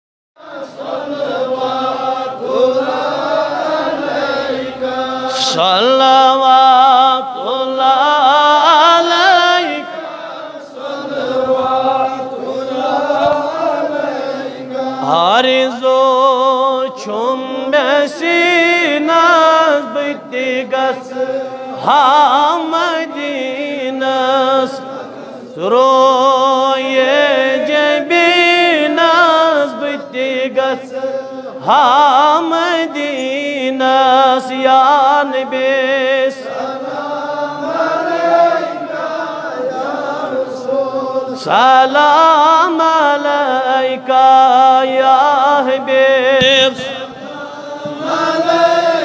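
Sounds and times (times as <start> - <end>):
man singing devotional song: 0.4 - 49.0.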